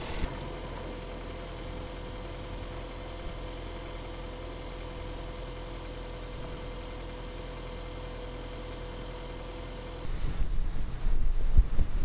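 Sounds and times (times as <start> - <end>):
thin steady whine: 0.0 - 7.1, 9.1 - 12.0
vehicle engine idling: 0.0 - 12.0.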